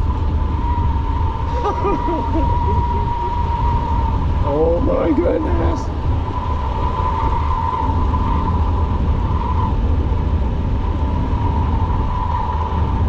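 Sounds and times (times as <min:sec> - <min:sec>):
car engine rumbling: 0:00.0 - 0:13.0
engine whine: 0:00.0 - 0:13.0.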